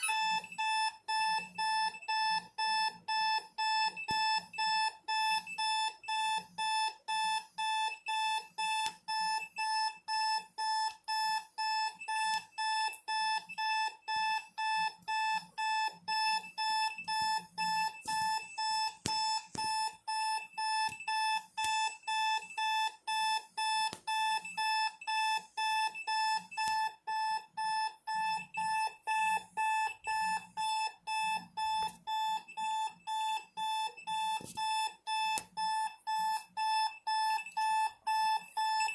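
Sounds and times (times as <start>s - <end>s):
high-pitched alarm beeping: 0.0s - 38.9s.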